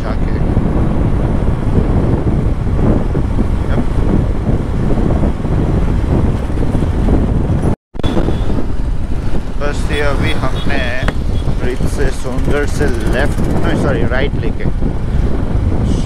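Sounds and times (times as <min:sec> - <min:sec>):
wind rushing over microphone: 0:00.0 - 0:16.0
motorcycle engine at speed: 0:00.6 - 0:14.0.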